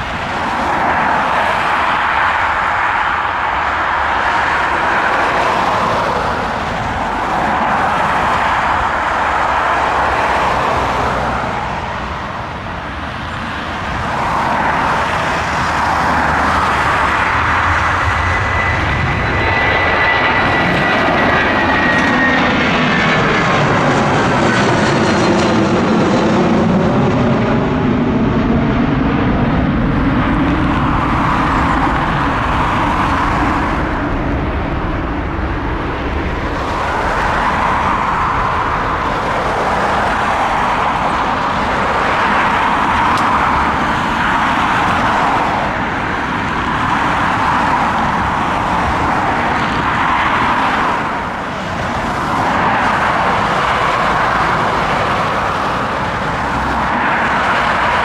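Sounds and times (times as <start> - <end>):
jet airliner engines: 0.0 - 58.0.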